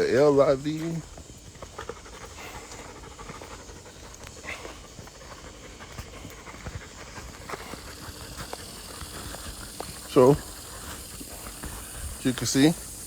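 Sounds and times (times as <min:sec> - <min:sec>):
dog panting: 0:00.0 - 0:13.0
small ticks: 0:00.0 - 0:13.0.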